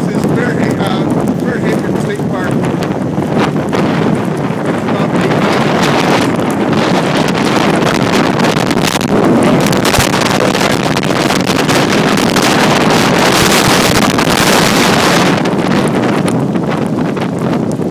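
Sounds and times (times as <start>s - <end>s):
surf breaking on shore: 0.0s - 17.9s
wind buffeting microphone: 0.0s - 17.9s.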